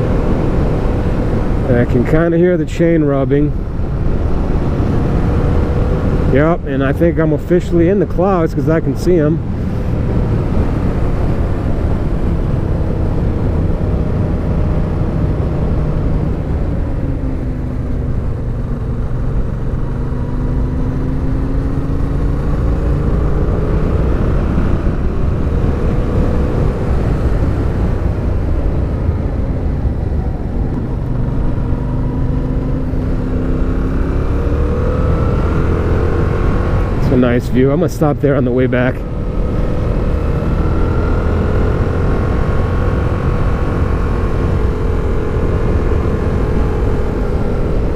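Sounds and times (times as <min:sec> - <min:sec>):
motorcycle engine on the move: 0:00.0 - 0:47.9
wind and road noise: 0:00.0 - 0:47.9.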